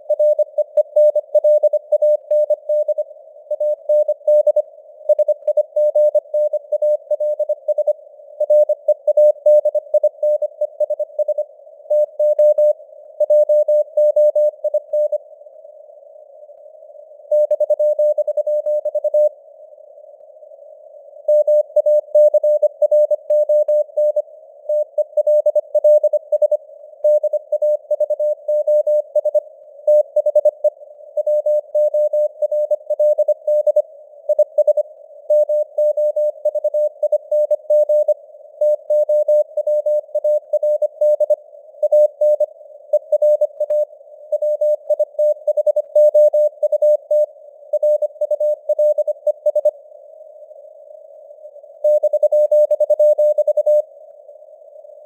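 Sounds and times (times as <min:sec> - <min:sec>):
morse code beeps: 0:00.1 - 0:15.2, 0:21.3 - 0:49.7, 0:51.9 - 0:53.8.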